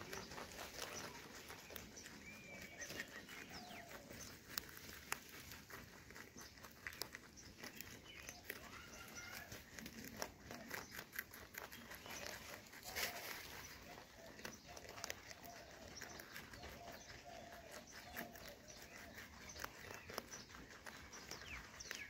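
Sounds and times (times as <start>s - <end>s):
rabbits crunching carrots: 0.0s - 22.0s.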